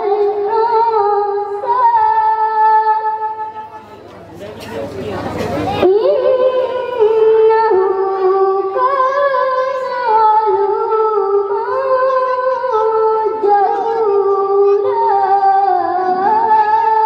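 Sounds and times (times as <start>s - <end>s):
boy chanting melodic recitation: 0.0s - 17.0s.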